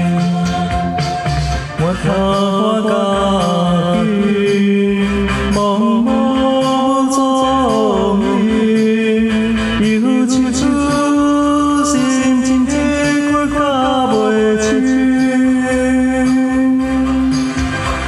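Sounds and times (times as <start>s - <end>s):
man singing: 0.0s - 17.5s
karaoke backing track: 0.0s - 18.0s.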